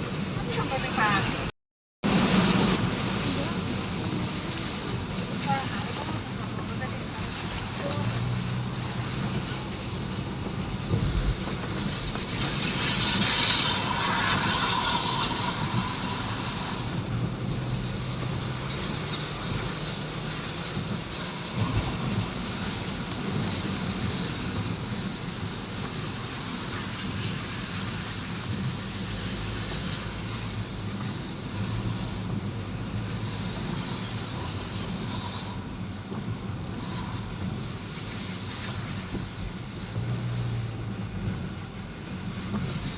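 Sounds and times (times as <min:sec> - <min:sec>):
road noise in rain: 0:00.0 - 0:42.9
wind buffeting microphone: 0:00.0 - 0:42.9.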